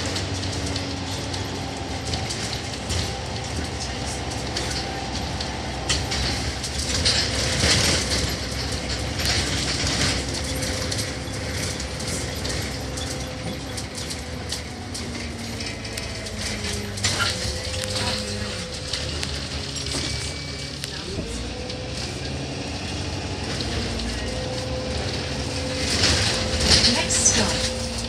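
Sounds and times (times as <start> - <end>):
bus body rattling: 0.0 - 28.0
bus engine and road drone: 0.0 - 28.0.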